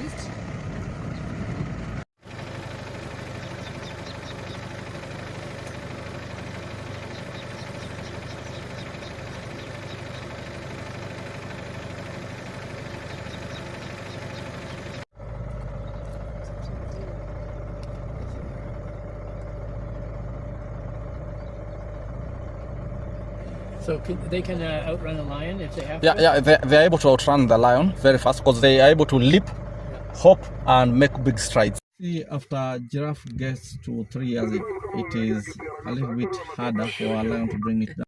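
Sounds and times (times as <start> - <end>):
vehicle engine humming: 0.0 - 38.0.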